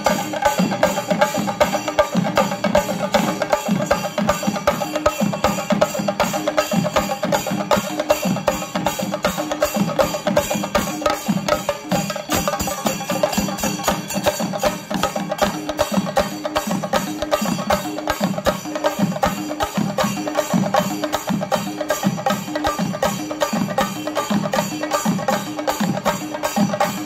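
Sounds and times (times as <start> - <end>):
drums beaten with sticks: 0.0 - 27.0.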